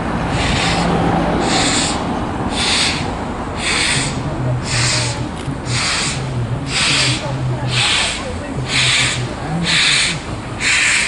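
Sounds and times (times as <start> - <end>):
steam locomotive chuffing: 0.3 - 11.0.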